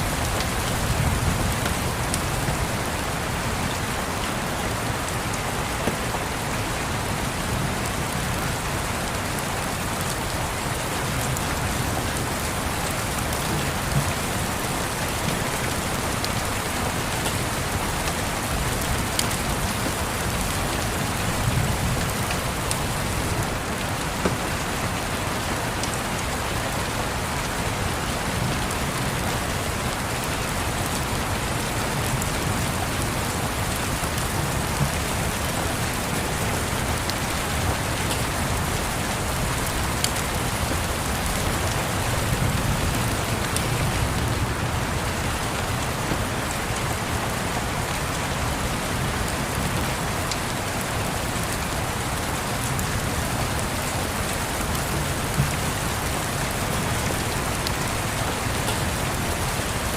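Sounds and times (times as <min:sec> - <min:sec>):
rain on a surface: 0:00.0 - 0:59.9.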